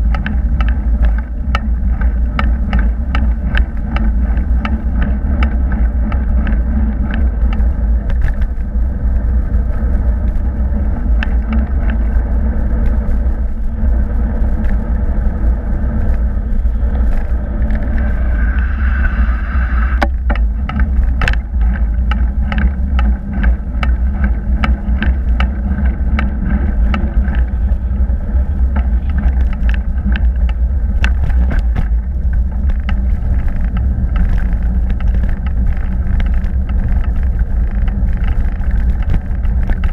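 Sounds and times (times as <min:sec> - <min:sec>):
bike clicks and rattles: 0:00.0 - 0:18.6, 0:20.0 - 0:39.9
tyre noise on tarmac: 0:00.0 - 0:39.9
wind buffeting microphone: 0:00.0 - 0:39.9.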